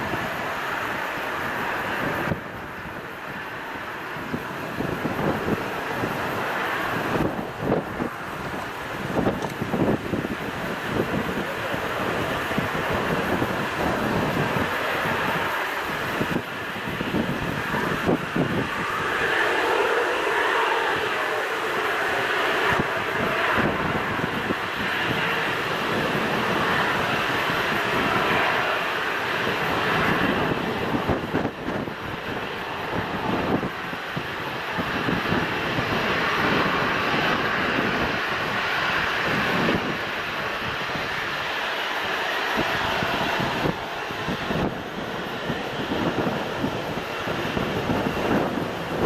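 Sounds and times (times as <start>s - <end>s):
airliner engines roaring: 0.0s - 49.0s
wind buffeting microphone: 0.0s - 49.0s.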